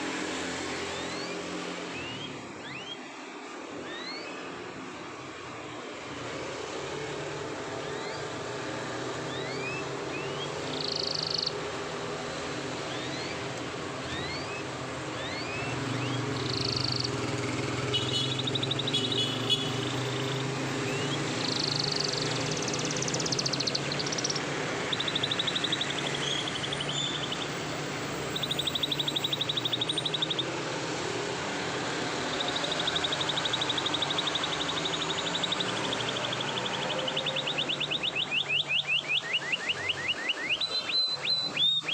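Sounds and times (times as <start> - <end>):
canary singing: 0.5 - 3.0, 3.8 - 4.5, 7.4 - 41.9.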